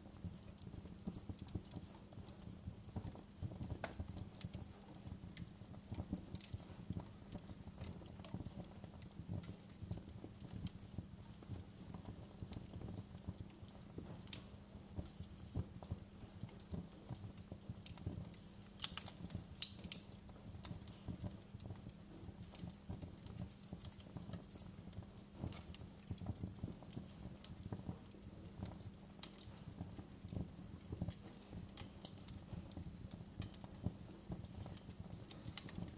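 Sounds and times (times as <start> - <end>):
wood fire crackling and popping: 0.0 - 35.9.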